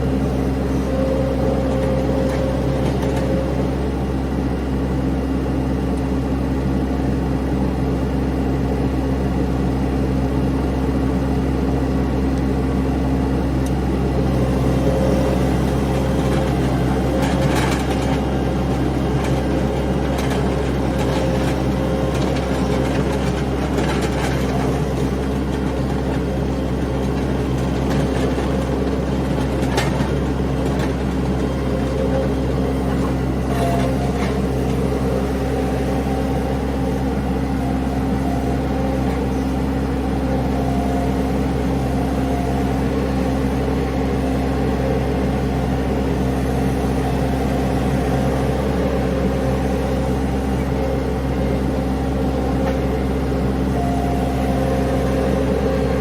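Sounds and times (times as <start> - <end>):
skid steer engine running: 0.0 - 56.0.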